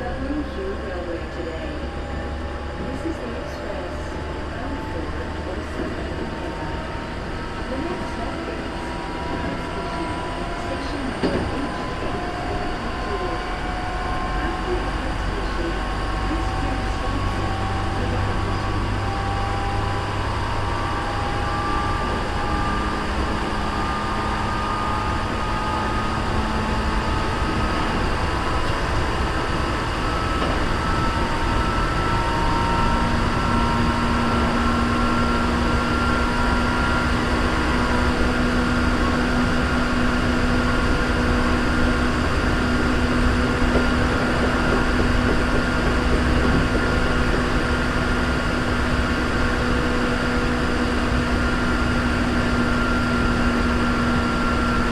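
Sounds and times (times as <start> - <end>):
train wheels rumbling on rail: 0.0 - 54.9
train motor whine rising: 0.8 - 54.9.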